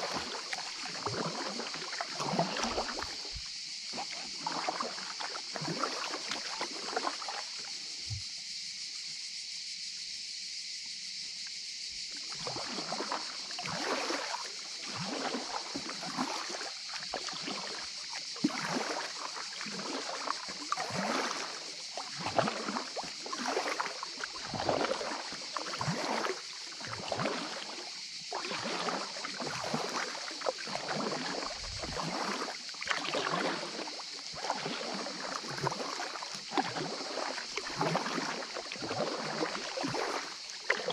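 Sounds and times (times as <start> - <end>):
water slapping kayak hull: 0.0 - 8.5, 12.0 - 40.9
paddle strokes splashing: 0.0 - 8.6, 12.0 - 40.9.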